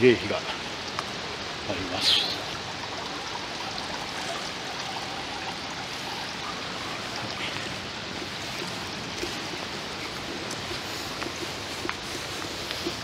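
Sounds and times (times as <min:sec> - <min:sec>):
water rushing from a height: 0:00.0 - 0:13.0.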